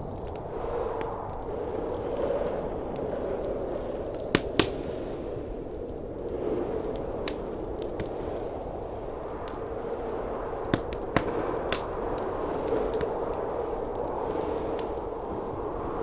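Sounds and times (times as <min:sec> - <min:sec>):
roar of blizzard wind: 0:00.0 - 0:16.0
wood fire crackling: 0:00.0 - 0:16.0.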